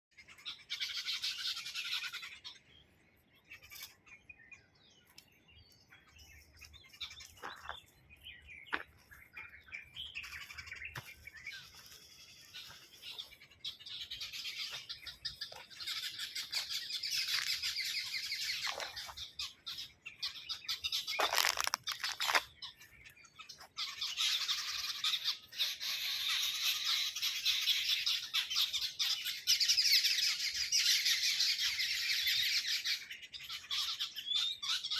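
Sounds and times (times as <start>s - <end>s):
small birds chirping and twittering: 0.1s - 34.9s.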